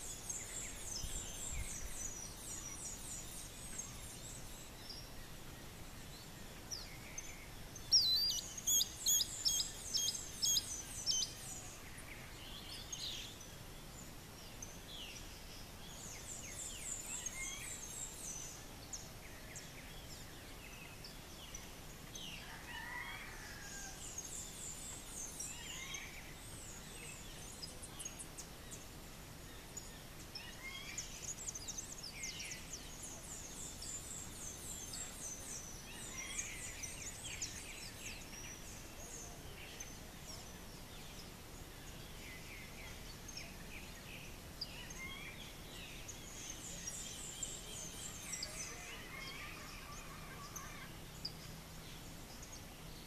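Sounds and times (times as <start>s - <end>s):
low background noise: 0.0s - 53.0s
small birds chirping and trilling: 0.0s - 53.0s.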